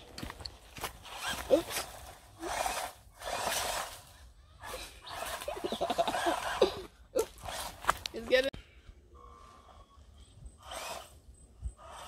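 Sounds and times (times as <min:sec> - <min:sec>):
electric rc buggy driving: 0:00.8 - 0:08.4, 0:09.2 - 0:12.0.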